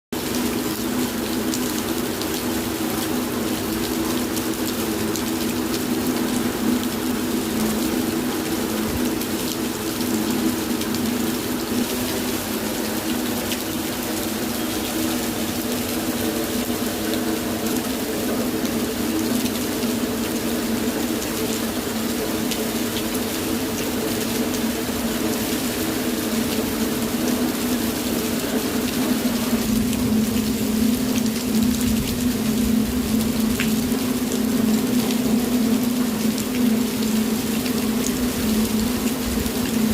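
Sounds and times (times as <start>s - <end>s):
steady rain falling: 0.2s - 39.9s.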